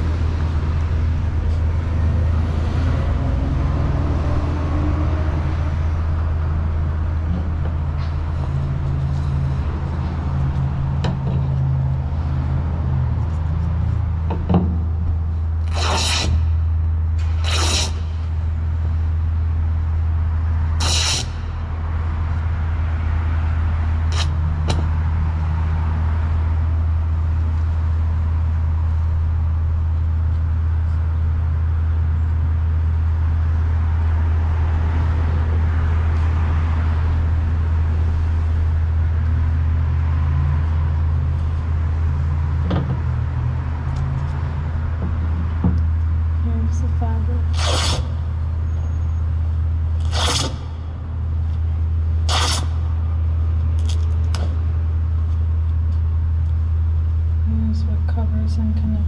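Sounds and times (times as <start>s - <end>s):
low hum: 0.0s - 59.0s
street noise: 0.0s - 59.0s.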